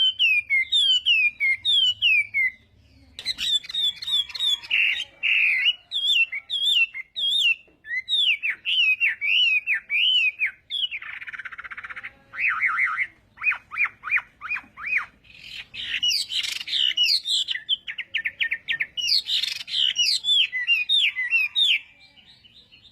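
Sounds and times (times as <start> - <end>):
bird singing whistled song: 0.0 - 22.9.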